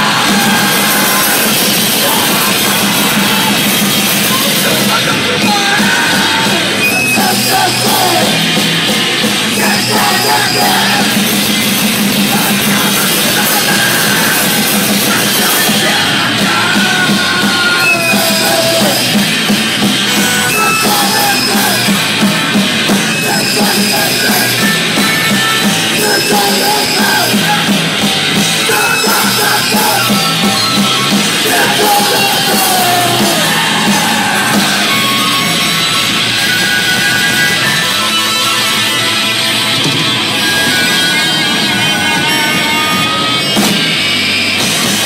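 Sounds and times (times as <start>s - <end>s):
drums: 0.0s - 45.0s
loud dense band playing: 0.0s - 45.0s.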